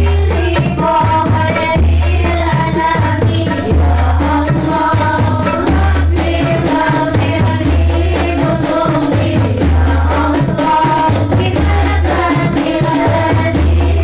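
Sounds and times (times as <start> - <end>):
frame drums: 0.0 - 14.0
women singing: 0.0 - 14.0.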